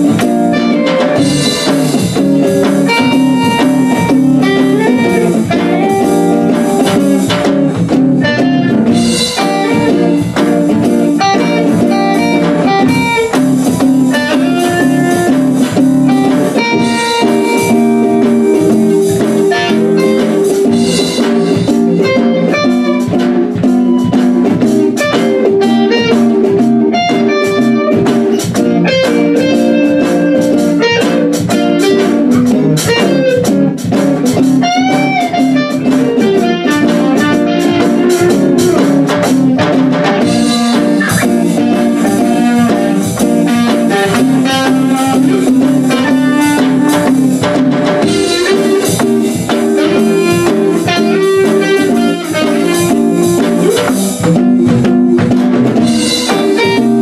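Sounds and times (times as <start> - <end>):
blues guitar playing: 0.0 - 57.0.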